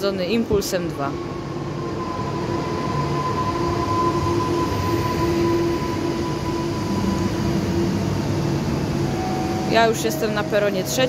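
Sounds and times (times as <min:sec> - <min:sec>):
electric train motor whine: 0:01.2 - 0:11.0.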